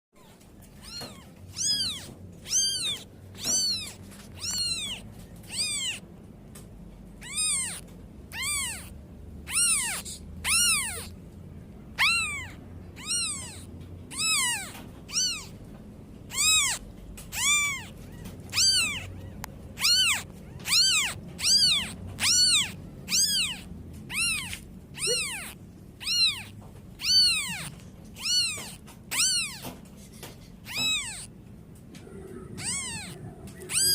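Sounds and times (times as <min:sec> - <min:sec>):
kitten mewing: 0:00.2 - 0:06.0, 0:07.2 - 0:11.2, 0:11.9 - 0:15.6, 0:16.3 - 0:29.8, 0:30.6 - 0:31.4, 0:32.0 - 0:33.9.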